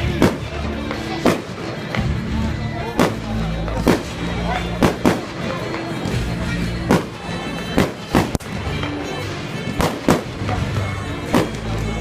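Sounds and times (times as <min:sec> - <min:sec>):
background music: 0:00.0 - 0:12.0
fireworks bangs: 0:00.0 - 0:12.0.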